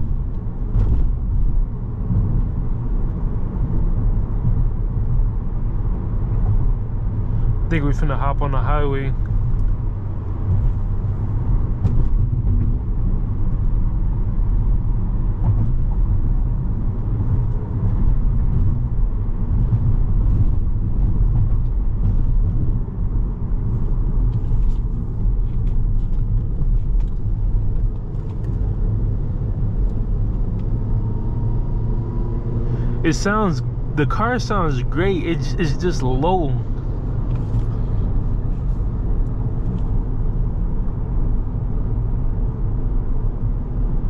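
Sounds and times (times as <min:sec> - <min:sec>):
car engine and tyres rumble: 0:00.0 - 0:44.0.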